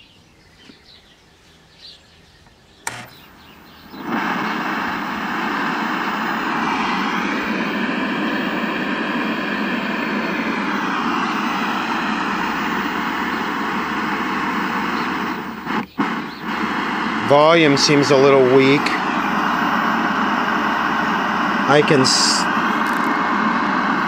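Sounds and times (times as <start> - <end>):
static hiss from tv speaker: 2.8 - 24.0.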